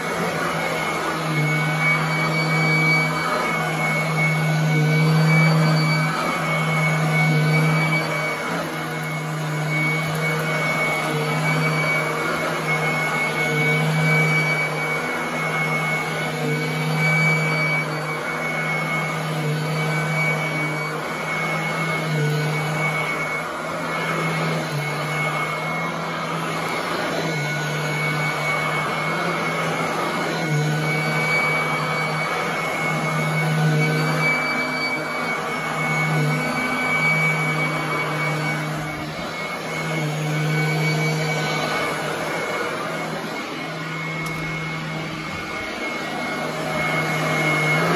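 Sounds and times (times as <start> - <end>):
vacuum cleaner whining: 0.0 - 47.9.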